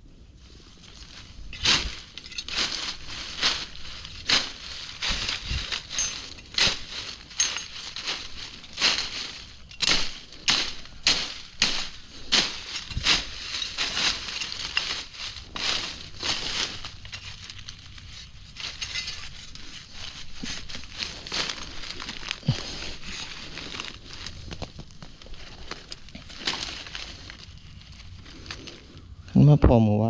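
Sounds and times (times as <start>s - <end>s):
leaves and twigs crunching: 0.0s - 29.2s.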